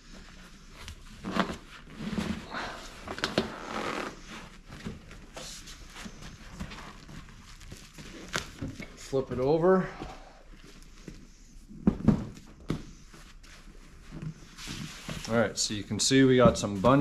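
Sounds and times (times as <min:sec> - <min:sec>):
vinyl rustling and scraping: 0:00.0 - 0:09.6, 0:10.5 - 0:17.0.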